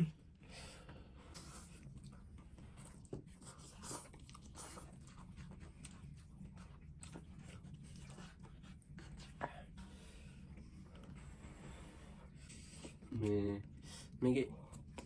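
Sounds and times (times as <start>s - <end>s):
low background hum: 0.0s - 15.0s
chewing noodles: 1.0s - 15.0s.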